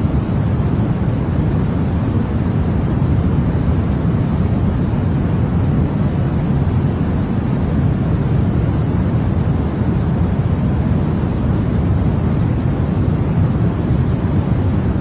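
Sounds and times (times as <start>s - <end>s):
white noise hiss: 0.0s - 15.0s.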